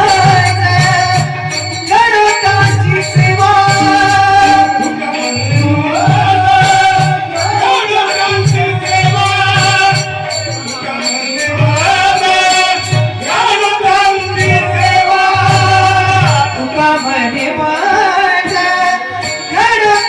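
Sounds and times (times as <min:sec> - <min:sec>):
devotional singing: 0:00.0 - 0:20.0
jingling percussion: 0:00.0 - 0:20.0
tabla rhythm: 0:00.0 - 0:20.0.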